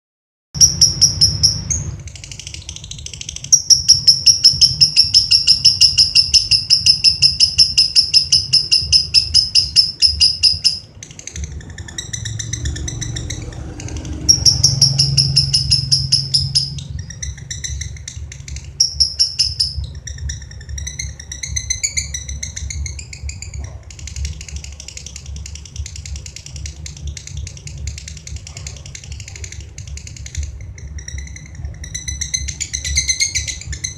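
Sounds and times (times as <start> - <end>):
lovebird chirping: 0.6 - 33.9
steady low hum: 0.6 - 33.9.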